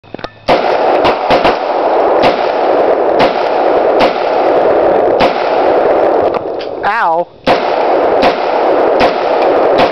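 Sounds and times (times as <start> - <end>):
steady loud noise: 0.1 - 9.9
gunshots: 0.5 - 9.9.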